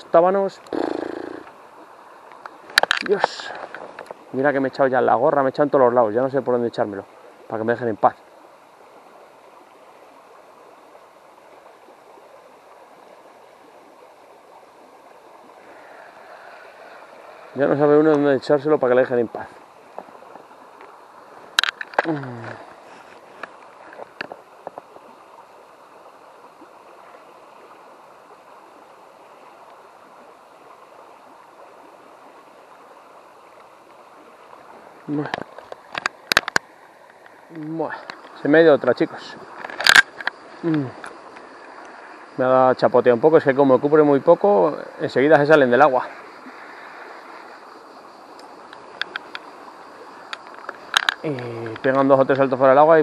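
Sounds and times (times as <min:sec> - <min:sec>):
shallow river flowing: 0:00.0 - 0:53.0.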